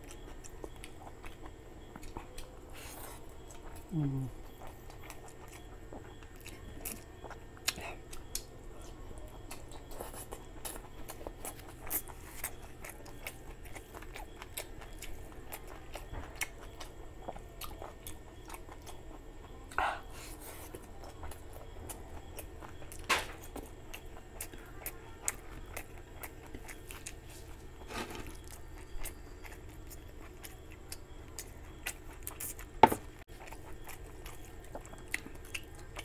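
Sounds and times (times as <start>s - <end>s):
person chewing with wet clicks: 0.0s - 36.0s.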